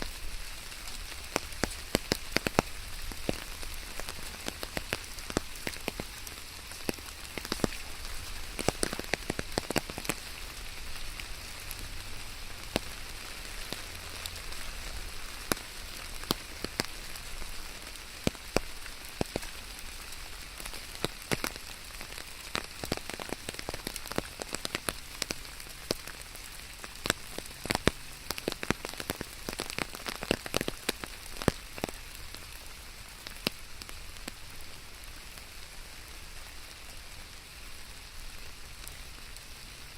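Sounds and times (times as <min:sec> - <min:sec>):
raindrop impacts: 0:00.0 - 0:34.4
steady rain falling: 0:00.0 - 0:39.9.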